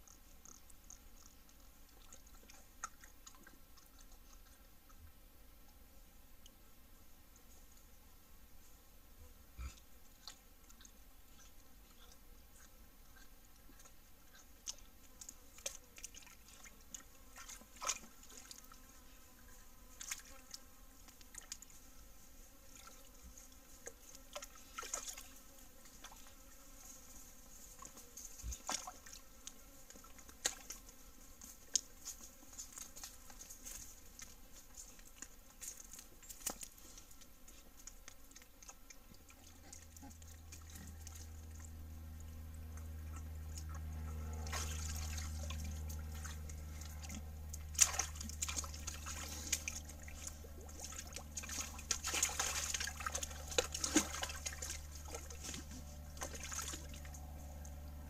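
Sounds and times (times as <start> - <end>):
animals clicking and splashing: 0.0 - 5.2, 9.6 - 58.0.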